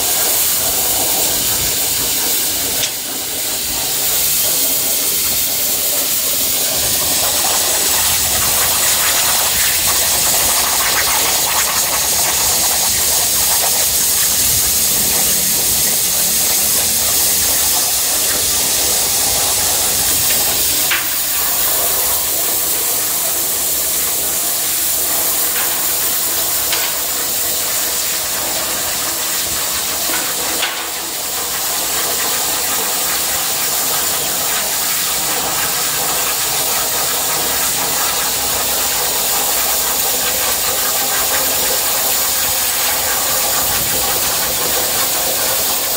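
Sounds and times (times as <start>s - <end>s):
plasma torch hissing: 0.0s - 45.9s.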